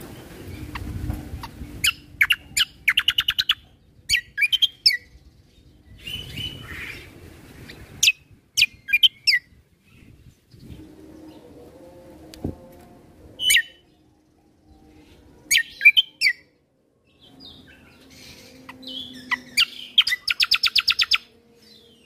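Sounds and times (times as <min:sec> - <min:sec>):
songbird chirping and trilling: 0:00.0 - 0:22.0.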